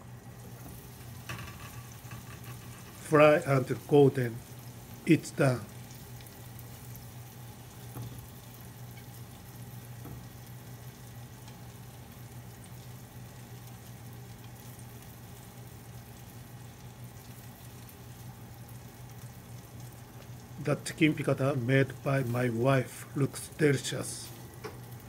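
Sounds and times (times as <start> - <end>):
chicken sizzling faintly in a pan: 0.0 - 25.0
steady low hum: 0.0 - 25.0.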